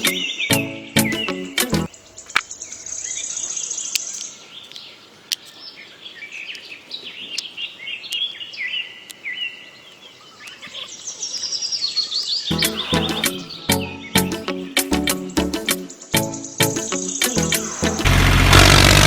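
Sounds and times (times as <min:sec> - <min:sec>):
birds chirping and trilling: 0:00.0 - 0:18.2.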